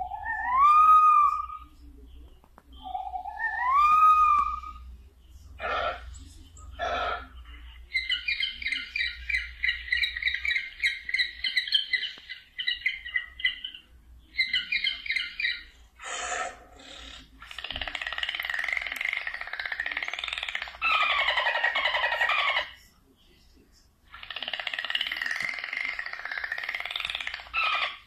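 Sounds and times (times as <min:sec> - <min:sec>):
bird chirping: 0:00.0 - 0:23.0, 0:24.1 - 0:28.0.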